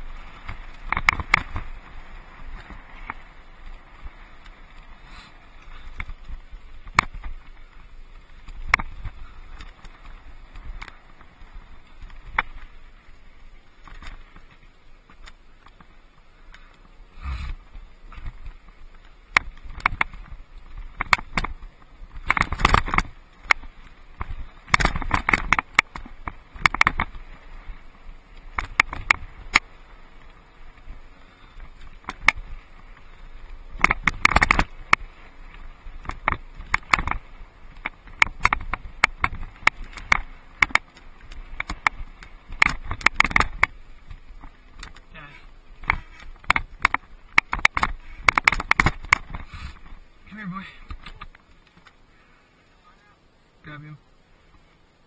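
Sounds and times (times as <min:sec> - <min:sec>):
mountain bike rattling over rocks: 0:00.0 - 0:52.1.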